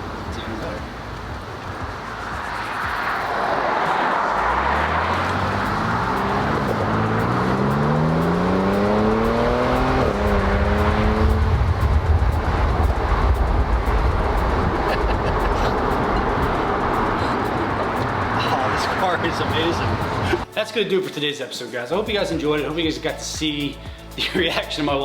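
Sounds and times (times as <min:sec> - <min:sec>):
car engine accelerating: 0:00.0 - 0:20.5
road and wind rumble: 0:00.0 - 0:20.5, 0:22.2 - 0:25.0.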